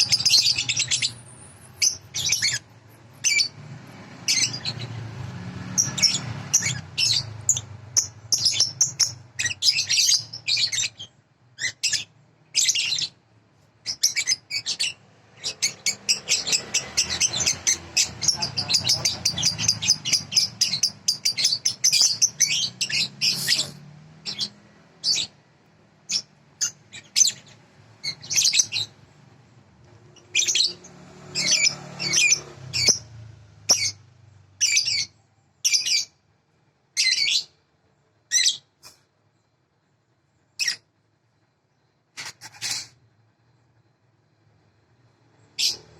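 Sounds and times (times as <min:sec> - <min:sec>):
small bird chirping and trilling: 0:00.0 - 0:13.2, 0:13.8 - 0:25.4, 0:26.1 - 0:29.2, 0:30.0 - 0:36.2, 0:37.0 - 0:37.6, 0:38.3 - 0:39.5, 0:40.5 - 0:40.9, 0:42.2 - 0:43.0, 0:45.4 - 0:45.9.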